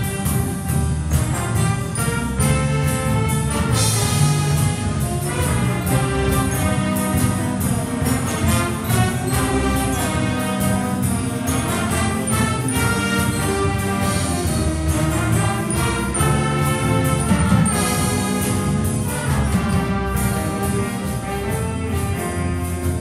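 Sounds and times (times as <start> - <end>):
drum kit steady beat: 0.0 - 23.0
horn section: 0.0 - 23.0
piano: 0.0 - 23.0.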